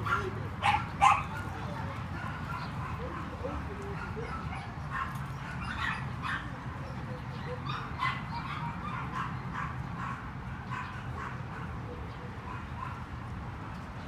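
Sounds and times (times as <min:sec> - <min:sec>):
dog yipping: 0:00.0 - 0:13.0.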